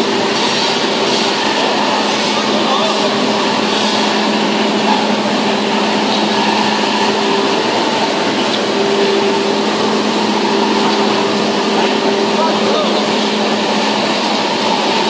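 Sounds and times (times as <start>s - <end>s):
machine running with low hum: 0.0s - 15.0s.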